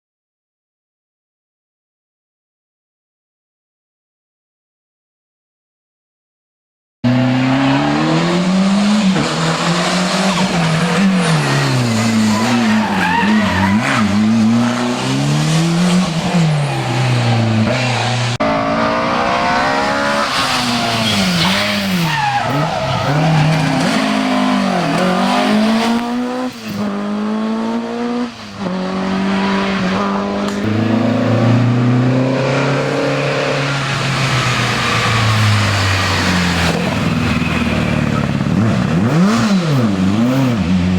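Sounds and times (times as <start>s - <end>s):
rally car engine revving: 7.0s - 40.9s.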